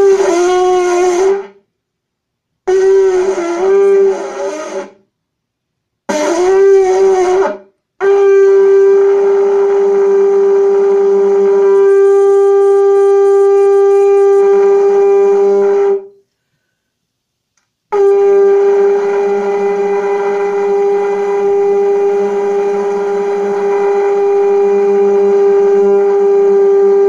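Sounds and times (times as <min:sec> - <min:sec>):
conch shell trumpet blasts: 0:00.0 - 0:01.6, 0:02.7 - 0:05.0, 0:06.1 - 0:16.2, 0:17.9 - 0:27.0.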